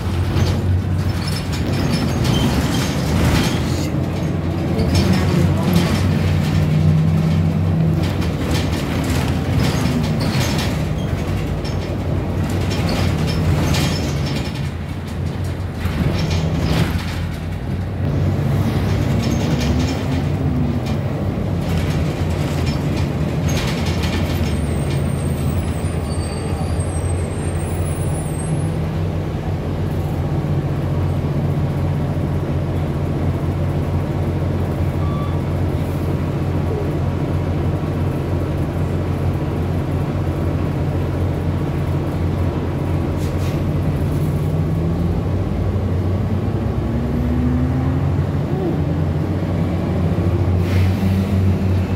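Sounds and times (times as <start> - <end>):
bus engine drone: 0.0 - 51.9
road noise: 0.0 - 51.9.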